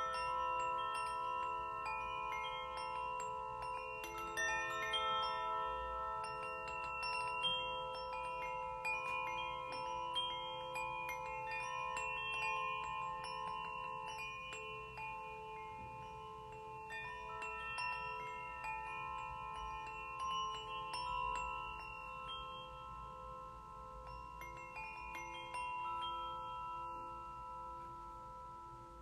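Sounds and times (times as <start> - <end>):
singing bowls ringing: 0.0 - 29.0
small bell ringing: 0.0 - 29.0.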